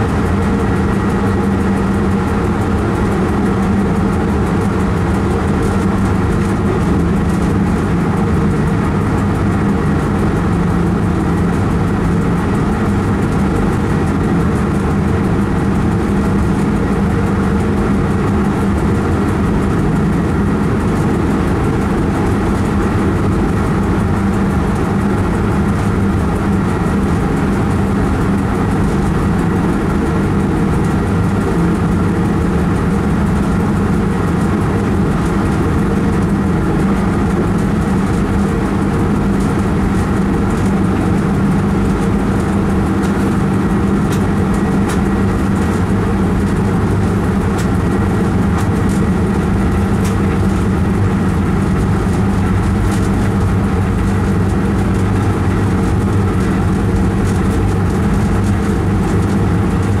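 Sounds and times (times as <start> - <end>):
train running in a tunnel: 0.0 - 60.0.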